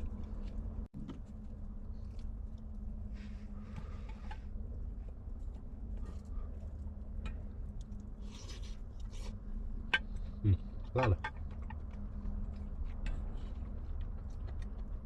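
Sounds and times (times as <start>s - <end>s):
soft chewing: 0.0s - 15.0s
steady low hum: 0.0s - 15.0s.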